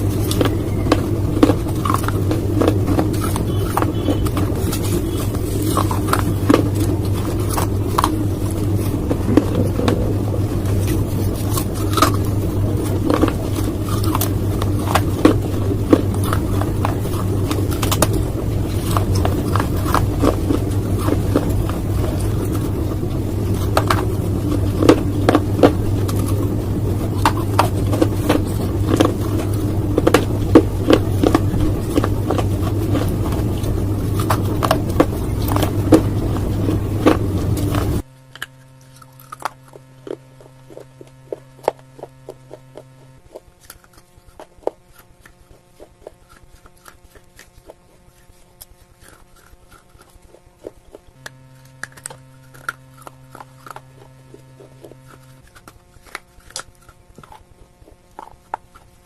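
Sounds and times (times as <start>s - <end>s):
dry clay being chewed: 0.0s - 59.0s
low hum: 0.0s - 59.0s.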